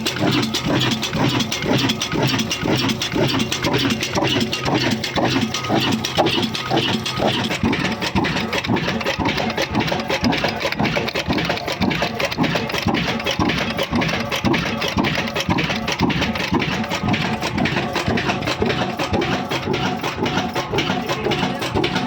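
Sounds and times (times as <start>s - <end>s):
stationary engine running rhythmically: 0.0s - 22.0s.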